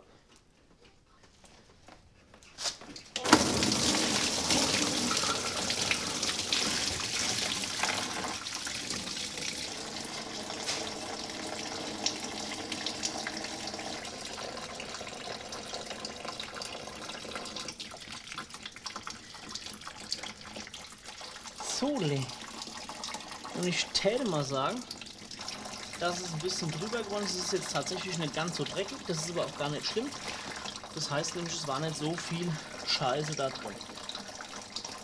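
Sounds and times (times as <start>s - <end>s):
coolant splashing into a tub: 3.2s - 35.0s.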